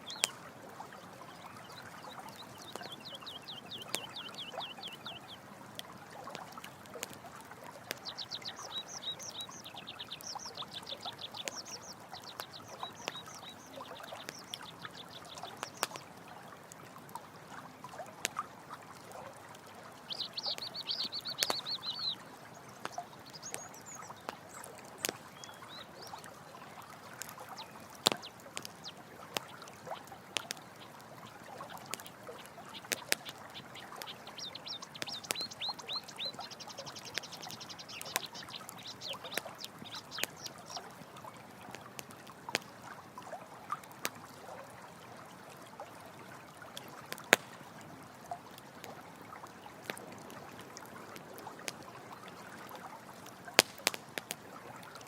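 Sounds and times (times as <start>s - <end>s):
campfire crackling with pops: 0.0s - 43.2s, 43.8s - 44.6s, 45.7s - 55.0s
running water: 0.0s - 55.0s.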